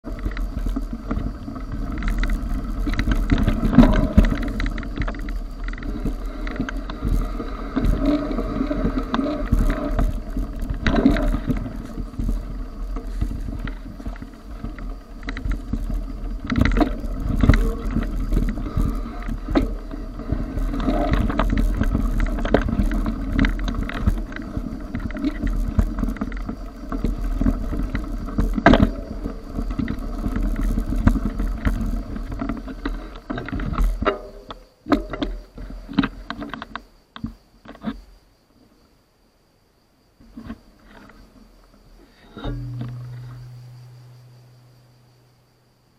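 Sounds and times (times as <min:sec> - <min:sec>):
bike frame rattle: 0:00.0 - 0:35.6, 0:42.0 - 0:45.0
tyres on dirt: 0:00.0 - 0:38.2, 0:40.2 - 0:45.3
bike knocks and clatters: 0:00.1 - 0:38.0, 0:42.1 - 0:44.6.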